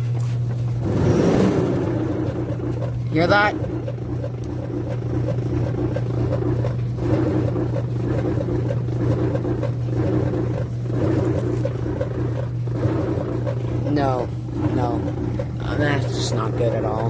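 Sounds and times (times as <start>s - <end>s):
clothes dryer humming: 0.0s - 17.0s
rough pulsing noise: 0.8s - 17.0s.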